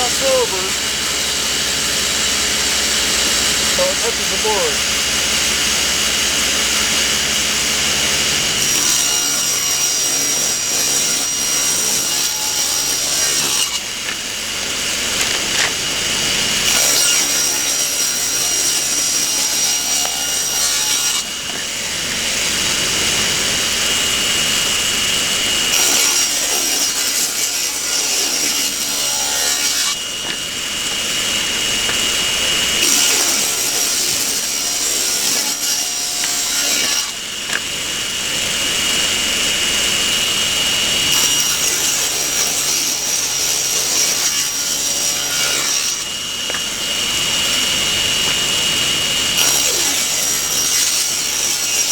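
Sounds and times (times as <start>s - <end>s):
table saw ripping wood: 0.0s - 51.9s.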